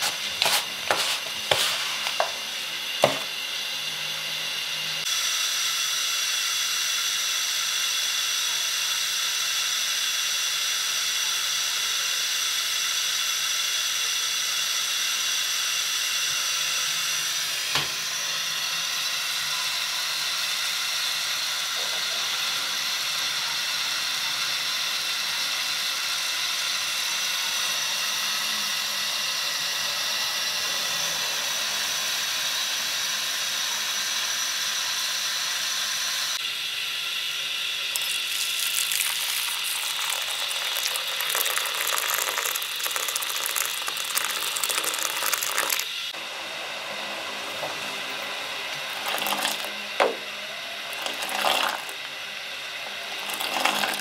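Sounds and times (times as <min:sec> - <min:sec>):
milk tea boiling hiss: 0:00.0 - 0:46.2, 0:47.4 - 0:54.0.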